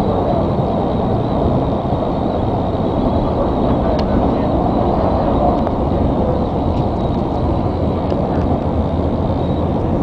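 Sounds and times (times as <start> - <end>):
subway wheels rumbling on rail: 0.0 - 10.0.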